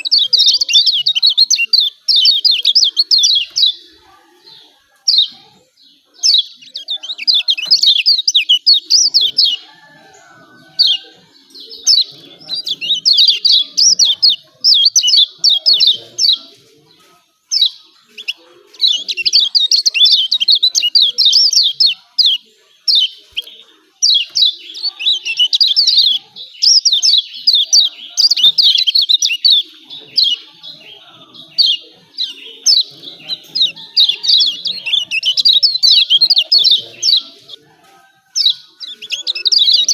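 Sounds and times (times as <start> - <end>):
bird chattering call: 0.0 - 3.8, 6.2 - 16.5, 17.5 - 37.6.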